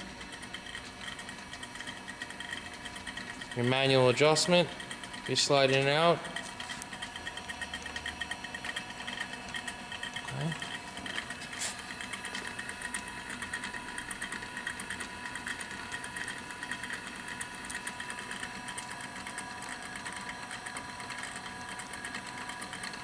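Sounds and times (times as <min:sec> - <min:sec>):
grinder machine running: 0:00.0 - 0:23.0.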